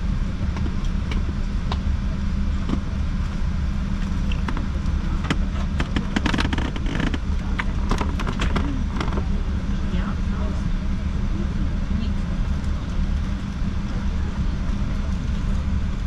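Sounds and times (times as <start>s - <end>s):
low rumble of machinery: 0.0s - 16.0s.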